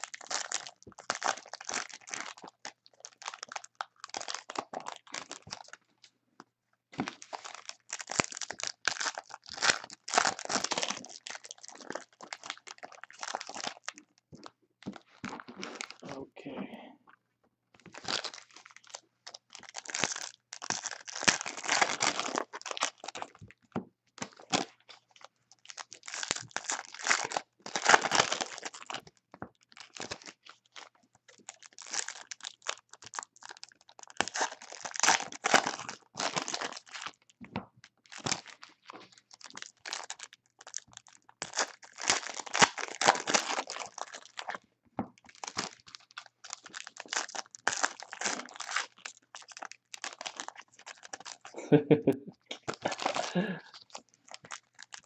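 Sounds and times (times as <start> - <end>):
card wrappers crinkling and tearing: 0.0 - 5.8, 7.0 - 16.0, 17.8 - 23.5, 24.2 - 37.3, 37.9 - 44.6, 45.2 - 51.6, 52.5 - 55.0.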